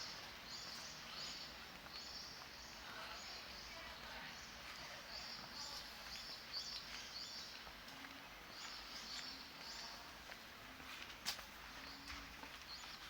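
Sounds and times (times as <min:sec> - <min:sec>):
small birds chirping: 0:00.0 - 0:07.8, 0:08.5 - 0:10.1, 0:11.8 - 0:13.0
faint street ambience: 0:00.0 - 0:13.0.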